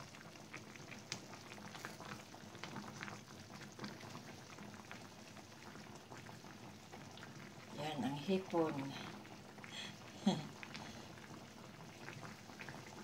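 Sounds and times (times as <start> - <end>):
soup simmering and bubbling: 0.0 - 13.0.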